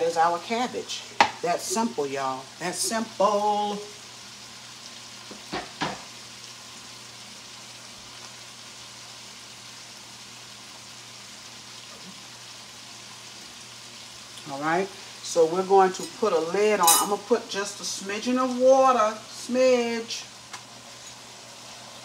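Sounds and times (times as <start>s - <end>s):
cabbage sizzling in a frying pan: 0.0s - 22.0s.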